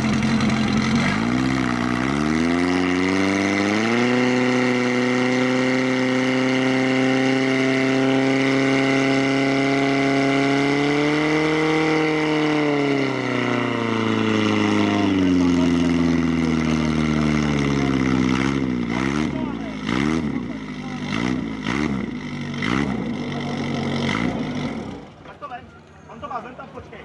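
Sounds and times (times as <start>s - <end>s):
fire pump engine revving: 0.0s - 25.6s.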